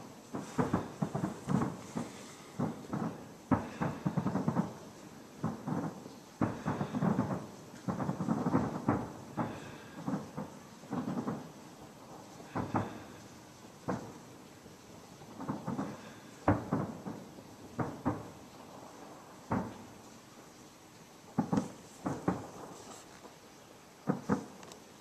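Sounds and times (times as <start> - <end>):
distant firework bangs: 0.0 - 25.0.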